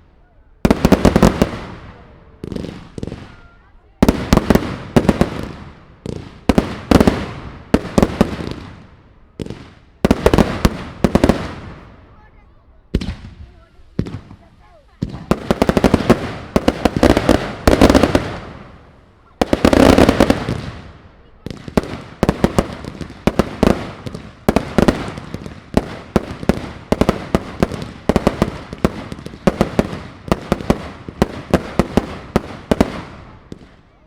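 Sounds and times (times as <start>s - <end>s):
fireworks crackling bangs: 0.6s - 34.0s
sharp firework reports: 0.7s - 33.8s.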